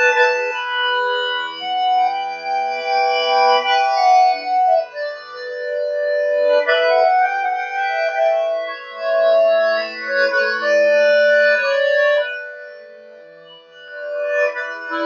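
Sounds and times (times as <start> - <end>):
sustained organ-like keyboard chords: 0.0 - 15.0.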